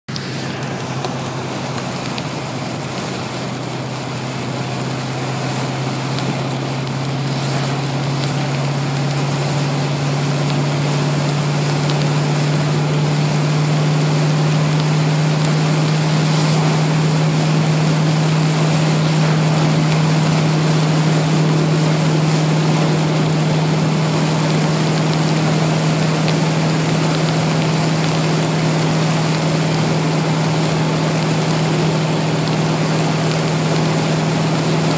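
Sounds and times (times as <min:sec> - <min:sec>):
car engine droning: 0:00.1 - 0:34.9
tyres hissing on wet road: 0:00.1 - 0:34.9.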